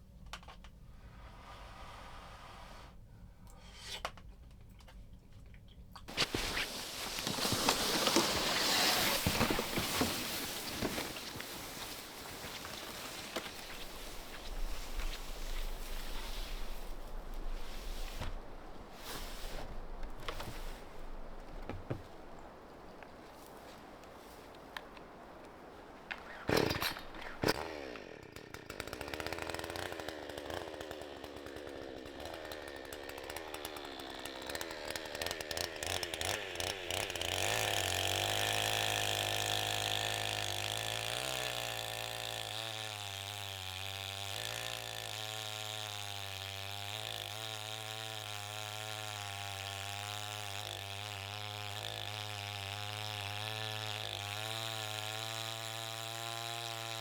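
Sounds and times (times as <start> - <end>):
chainsaw engine running: 6.1 - 57.0.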